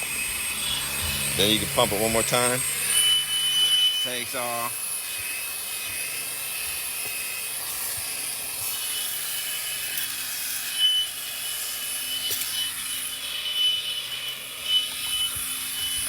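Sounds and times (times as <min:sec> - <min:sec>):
handheld vacuum whining: 0:00.0 - 0:16.0
vacuum nozzle scraping: 0:00.0 - 0:16.0.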